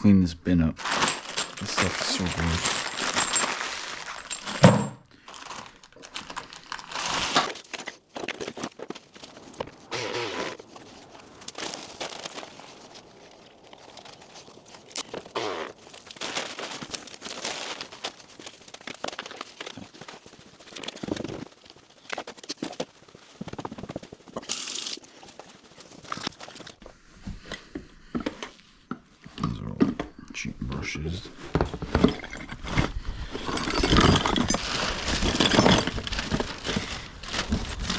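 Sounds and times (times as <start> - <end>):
rummaging through small metal fittings: 0.8 - 26.8, 31.9 - 37.9.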